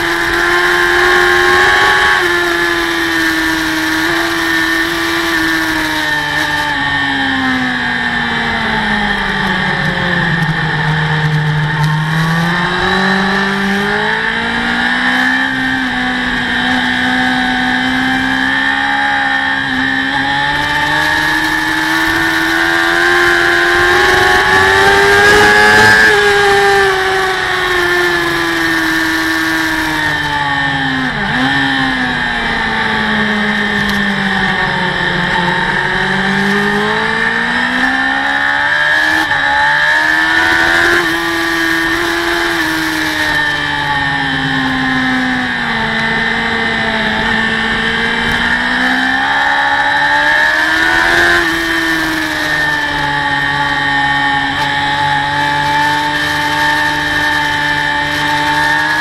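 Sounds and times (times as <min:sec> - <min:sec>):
motorcycle engine racing: 0:00.0 - 0:59.0.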